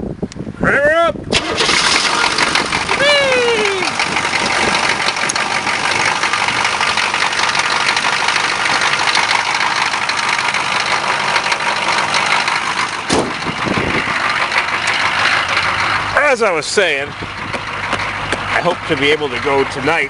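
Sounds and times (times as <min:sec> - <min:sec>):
diesel engine idling: 0:01.3 - 0:20.0.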